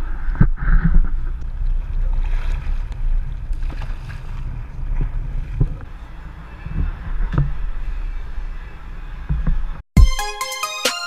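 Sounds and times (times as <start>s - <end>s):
boat engine rumble: 0.0s - 9.8s.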